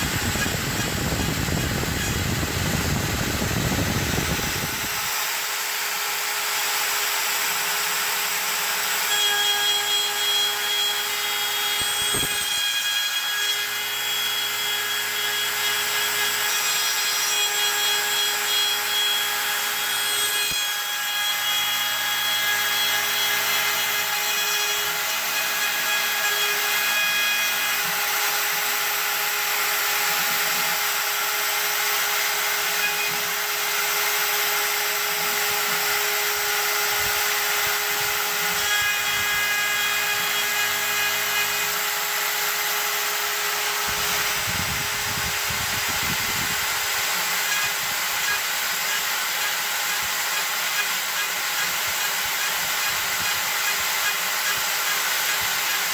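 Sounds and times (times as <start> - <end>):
router spindle whine and cutting: 0.0 - 55.9.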